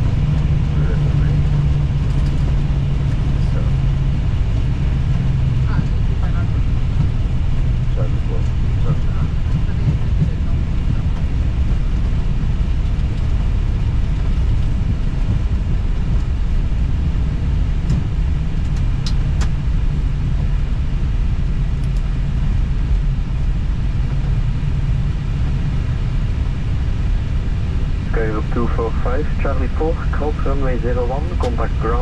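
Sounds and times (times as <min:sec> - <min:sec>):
low rumble of engines and wheels: 0:00.0 - 0:32.0.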